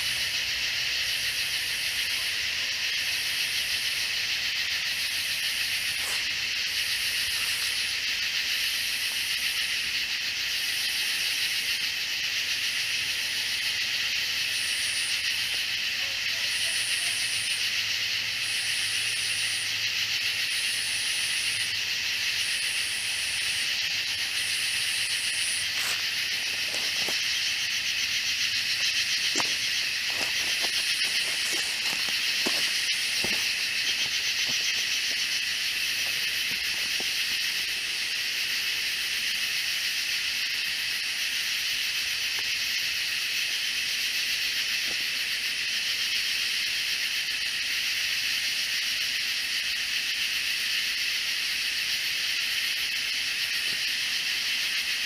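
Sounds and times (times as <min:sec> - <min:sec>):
insect buzzing drone: 0:00.0 - 0:55.0
pulsing insect call: 0:00.0 - 0:55.0.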